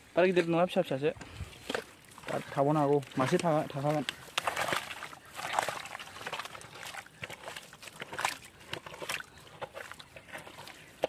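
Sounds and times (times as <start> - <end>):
hands scooping wet mud: 0.0 - 11.0.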